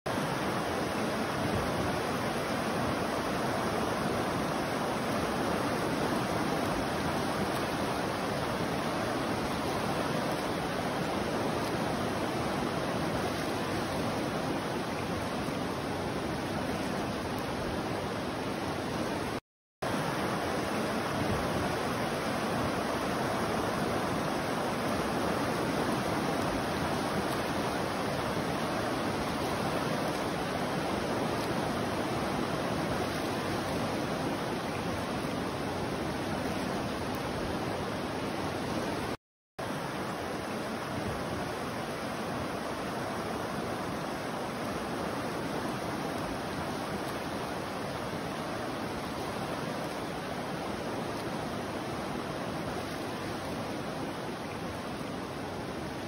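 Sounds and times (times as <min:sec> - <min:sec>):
river water rushing: 0:00.1 - 0:56.0.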